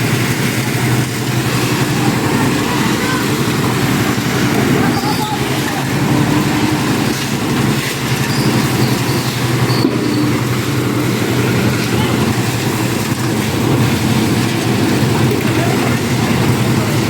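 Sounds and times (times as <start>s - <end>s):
mixer engine running: 0.0s - 17.0s
people's voices: 0.0s - 17.0s.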